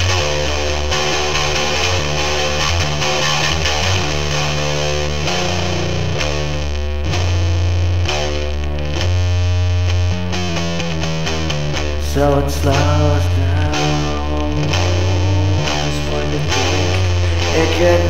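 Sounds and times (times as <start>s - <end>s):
distorted electric guitar: 0.0s - 18.0s
low bass notes: 0.0s - 18.0s.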